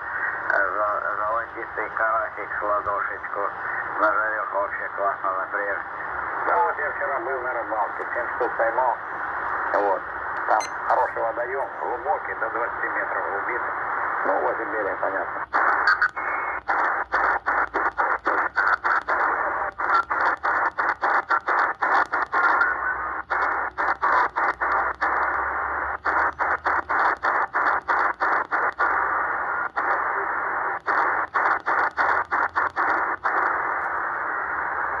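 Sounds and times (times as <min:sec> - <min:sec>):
shortwave radio band noise: 0:00.0 - 0:35.0.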